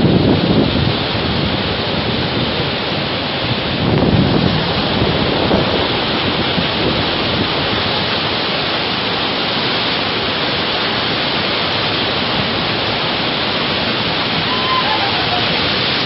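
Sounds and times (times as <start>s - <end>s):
heavy waterfall rushing: 0.0s - 16.0s.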